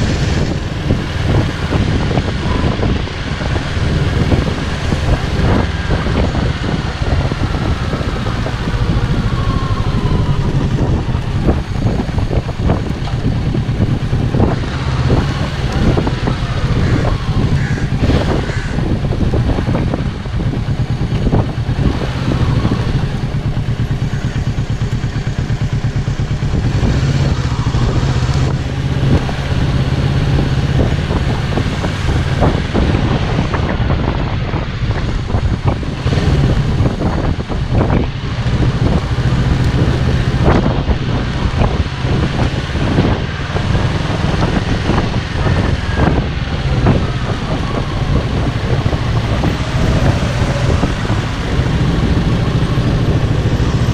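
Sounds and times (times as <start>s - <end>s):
motorcycle engine at low revs: 0.0s - 53.9s.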